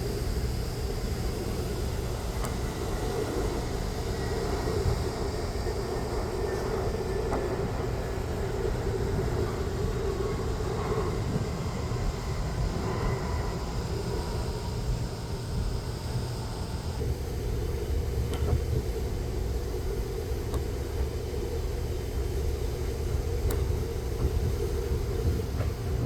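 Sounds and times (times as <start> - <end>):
jet airliner engines running: 0.0 - 26.0.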